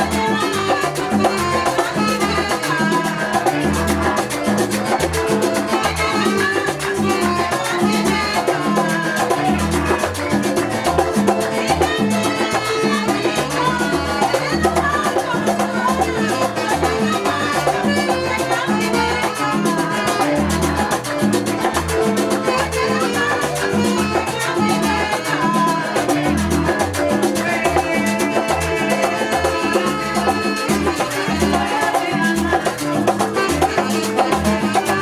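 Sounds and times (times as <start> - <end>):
latin music with percussion: 0.0 - 35.0.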